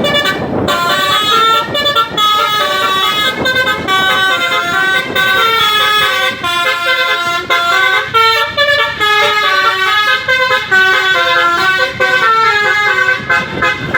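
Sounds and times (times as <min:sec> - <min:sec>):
musical bus horn melody: 0:00.0 - 0:13.9.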